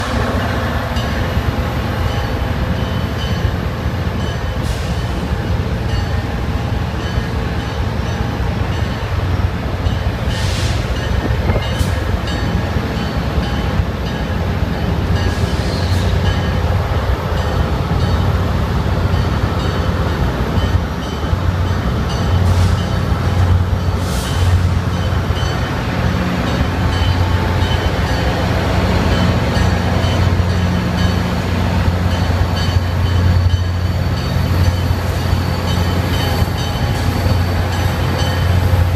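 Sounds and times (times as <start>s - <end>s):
diesel locomotive engine drone: 0.0s - 38.9s.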